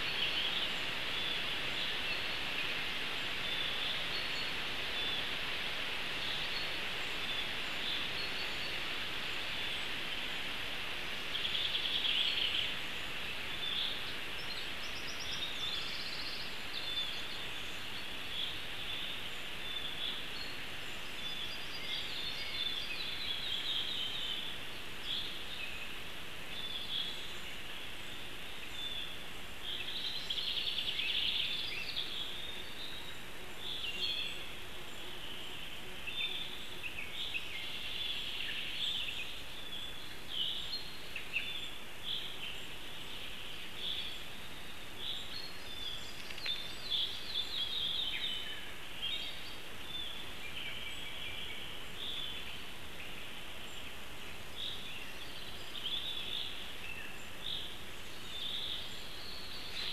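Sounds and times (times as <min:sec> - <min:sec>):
small birds chirping: 0:00.0 - 0:59.9
steady hiss: 0:00.0 - 0:59.9.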